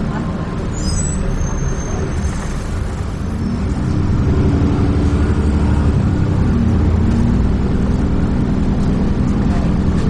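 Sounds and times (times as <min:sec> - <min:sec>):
bus engine rumbling: 0:00.0 - 0:10.0.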